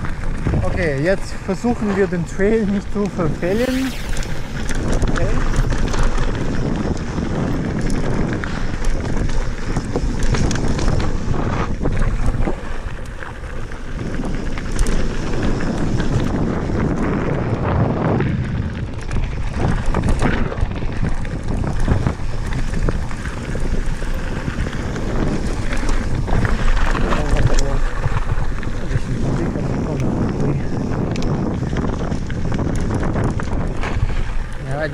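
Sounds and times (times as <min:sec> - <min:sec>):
bike tyres crunching on gravel: 0:00.0 - 0:34.9
wind on microphone: 0:00.0 - 0:34.9.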